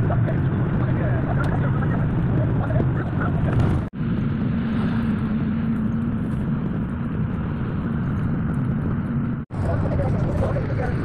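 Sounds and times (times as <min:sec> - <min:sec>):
low engine hum: 0:00.0 - 0:11.0
road rumble inside vehicle: 0:00.0 - 0:11.0.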